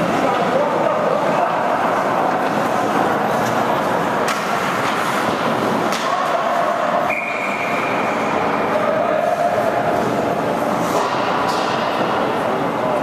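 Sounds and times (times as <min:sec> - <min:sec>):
crowd voices: 0:00.0 - 0:13.0
skating noise: 0:00.0 - 0:13.0.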